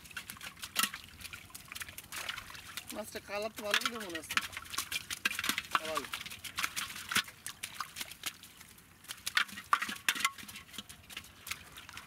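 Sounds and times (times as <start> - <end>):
fish flapping in wet net: 0.0 - 3.0, 3.6 - 12.0
small water splashes: 0.0 - 12.0.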